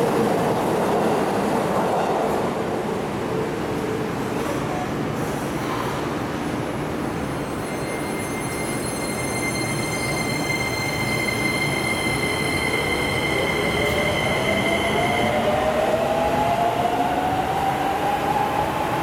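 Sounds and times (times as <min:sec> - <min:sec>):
train wheels rumbling in tunnel: 0:00.0 - 0:19.0.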